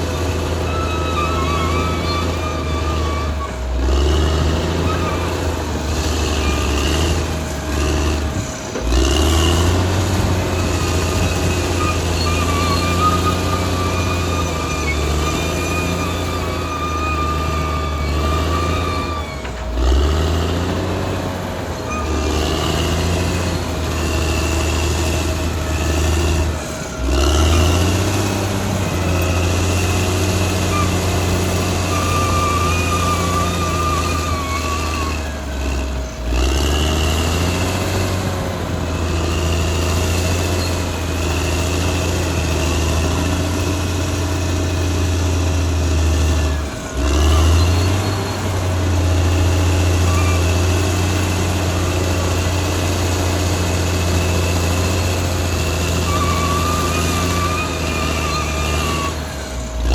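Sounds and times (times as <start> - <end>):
bulldozer diesel engine working: 0.0 - 59.9.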